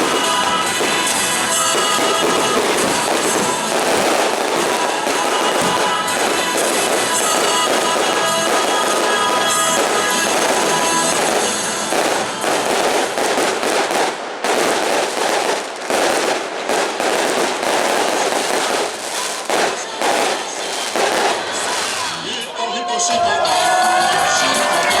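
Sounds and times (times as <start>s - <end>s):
fireworks bangs and crackles: 0.0s - 22.4s
loud stadium music: 0.0s - 25.0s.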